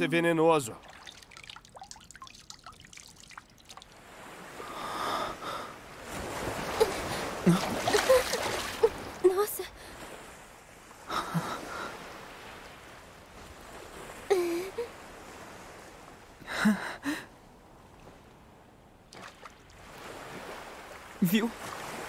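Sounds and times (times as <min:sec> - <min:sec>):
sea waves washing on shore: 0:00.0 - 0:16.5, 0:17.3 - 0:22.0.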